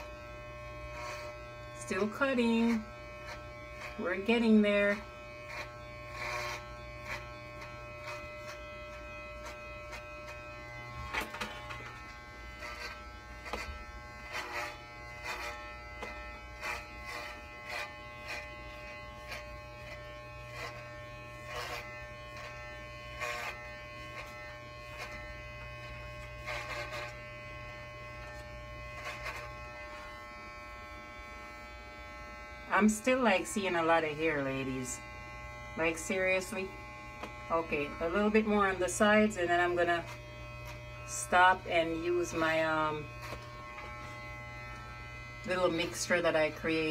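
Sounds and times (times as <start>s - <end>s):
electric hair clippers buzzing: 0.0s - 46.9s
scratchy rasps of blades through hair: 0.0s - 46.9s.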